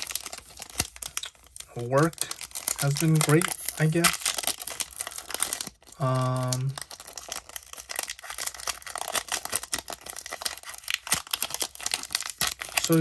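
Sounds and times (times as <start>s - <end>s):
foil wrapper crinkling: 0.0s - 13.0s.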